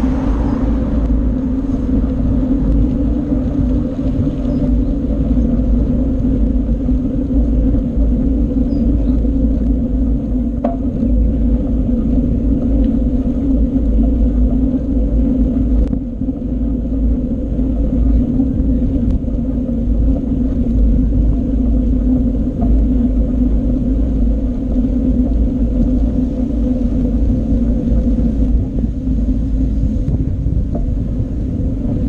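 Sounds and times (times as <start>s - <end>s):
bicycle tyre noise: 0.0s - 32.0s
faint bike rattles: 0.0s - 32.0s
wind buffeting microphone: 0.0s - 32.0s.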